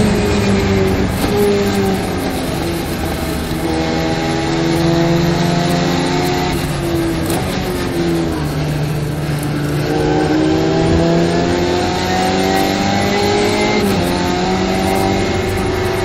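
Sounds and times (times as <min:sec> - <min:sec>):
race car engine at full throttle: 0:00.0 - 0:16.0.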